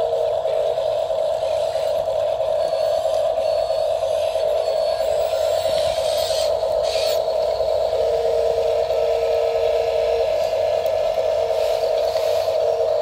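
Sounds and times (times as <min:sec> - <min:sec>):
electric motor whine: 0:00.0 - 0:13.0
lower motor whine: 0:00.0 - 0:13.0.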